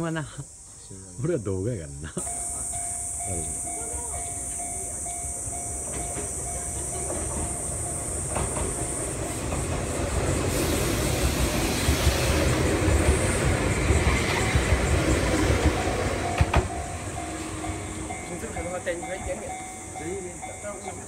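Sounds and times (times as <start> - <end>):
train rumble passing: 2.2 - 21.0
wheels clacking over rail joints: 2.8 - 21.0.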